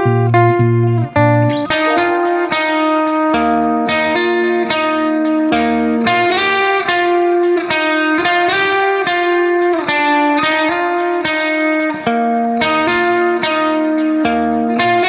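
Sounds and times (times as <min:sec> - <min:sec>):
melodic guitar instrumental: 0:00.0 - 0:15.0.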